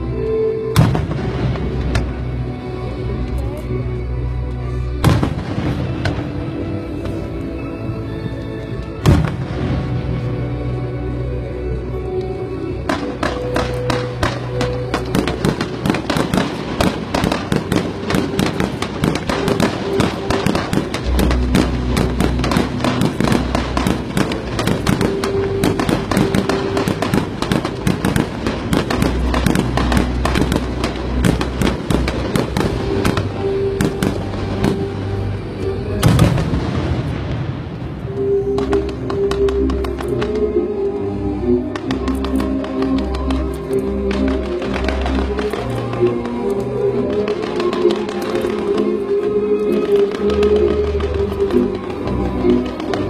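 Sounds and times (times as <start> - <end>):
music playing: 0.0 - 53.0
fireworks bangs and crackling: 0.7 - 2.5, 4.9 - 7.4, 8.8 - 10.4, 12.8 - 40.6, 41.7 - 53.0.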